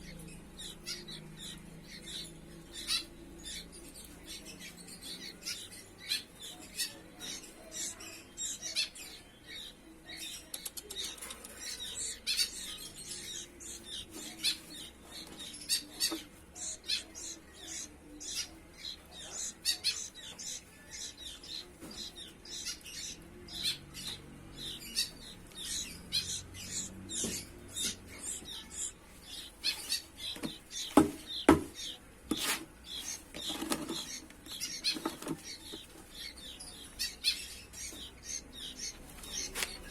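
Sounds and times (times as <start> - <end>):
chicks chirping: 0.0 - 39.9.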